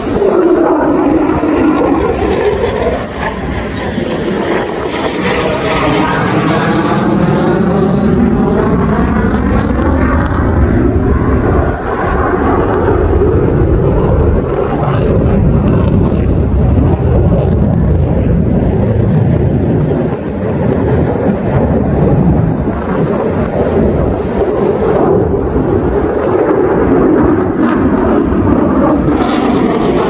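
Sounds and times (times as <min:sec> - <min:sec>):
jet fighter rumble overhead: 0:00.0 - 0:30.0.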